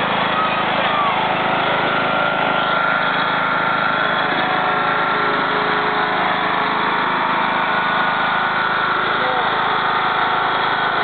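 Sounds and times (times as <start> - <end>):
riding lawn mower engine: 0.0 - 11.0.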